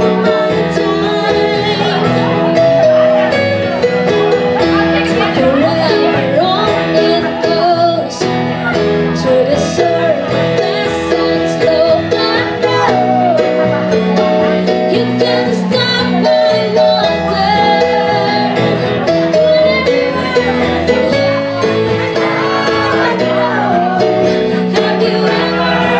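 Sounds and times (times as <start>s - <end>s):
person singing: 0.0s - 3.4s, 4.7s - 25.9s
keyboard accompaniment: 0.0s - 25.9s.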